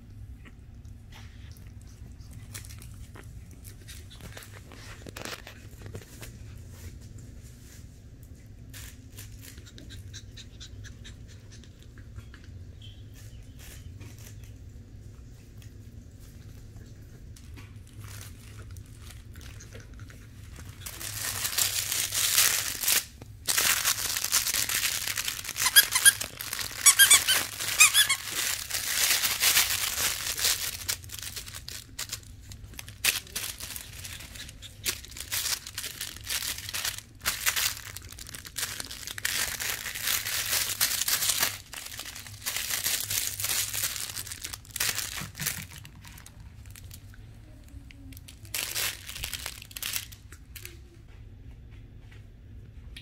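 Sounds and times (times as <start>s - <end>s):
dog toy crinkling and squeaking: 1.4s - 6.5s, 8.6s - 14.8s, 16.2s - 50.8s.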